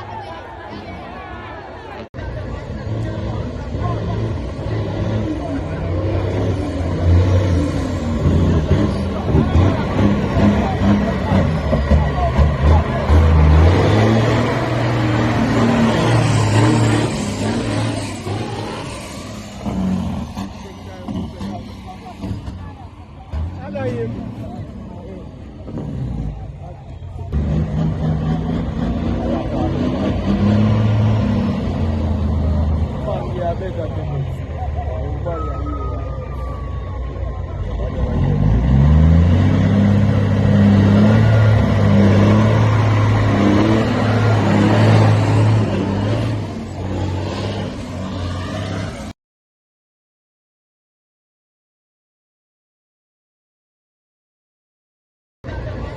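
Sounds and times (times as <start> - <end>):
truck engine running: 0.2 - 49.0.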